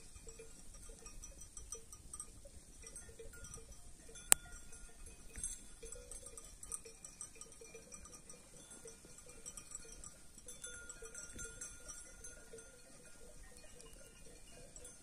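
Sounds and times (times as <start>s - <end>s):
sheep bells clinking: 0.0s - 15.0s.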